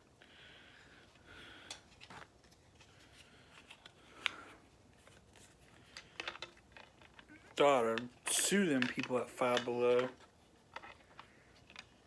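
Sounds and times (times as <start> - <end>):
packaging clicks and rustles: 1.6 - 12.0.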